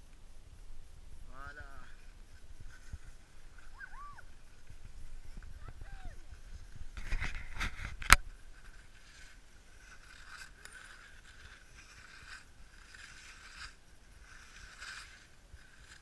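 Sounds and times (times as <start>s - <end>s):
skis scraping over snow: 1.8s - 16.0s.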